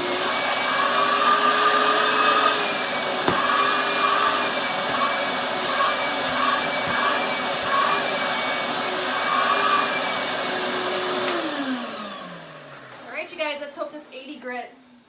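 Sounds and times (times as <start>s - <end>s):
shop vacuum running: 0.0s - 15.0s.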